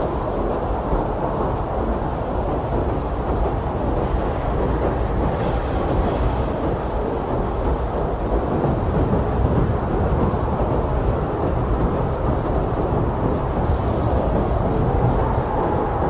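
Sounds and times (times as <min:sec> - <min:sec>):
strong blizzard wind: 0:00.0 - 0:16.0.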